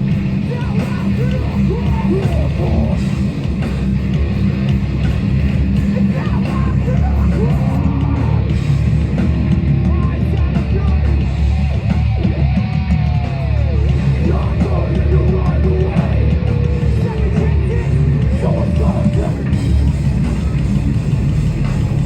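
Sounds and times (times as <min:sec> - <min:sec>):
hardcore band playing live: 0:00.0 - 0:22.0.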